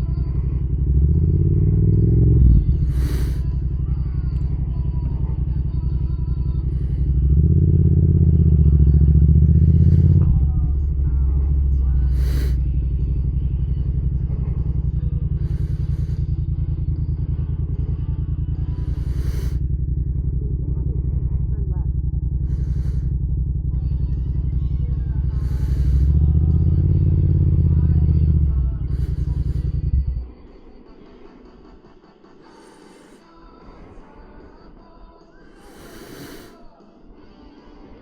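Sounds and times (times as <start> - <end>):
motorcycle engine running: 0.0 - 30.4.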